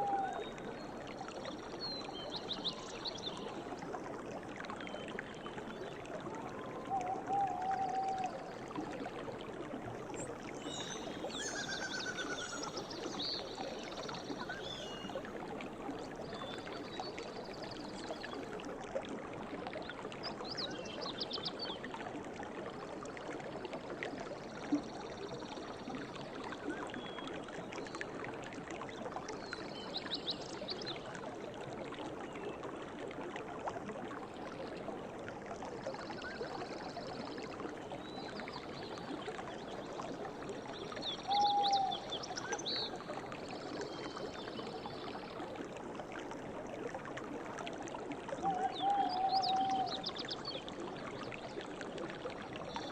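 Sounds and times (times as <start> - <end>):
river water running: 0.0 - 52.9.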